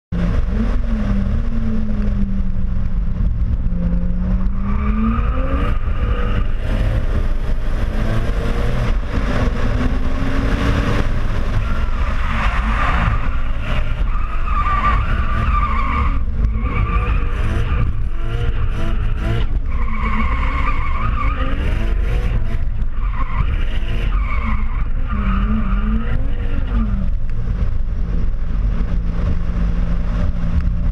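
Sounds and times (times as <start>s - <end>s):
wind and road noise rumble: 0.1s - 30.9s
car engine revving: 0.2s - 30.9s.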